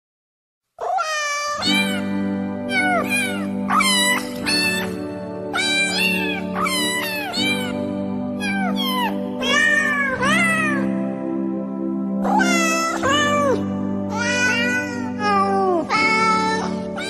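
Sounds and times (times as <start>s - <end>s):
cat meowing: 0.8s - 7.8s, 8.4s - 10.9s, 12.2s - 17.0s
background music with low chord: 1.6s - 17.0s.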